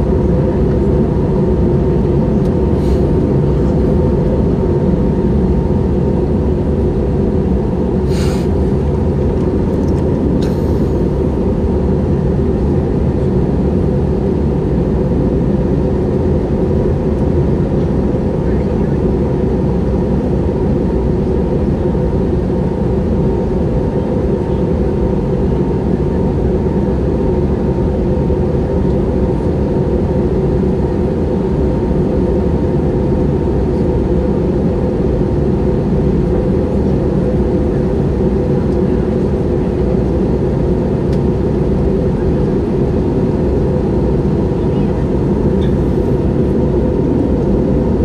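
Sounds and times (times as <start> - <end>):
jet engine cabin drone: 0.0 - 48.0.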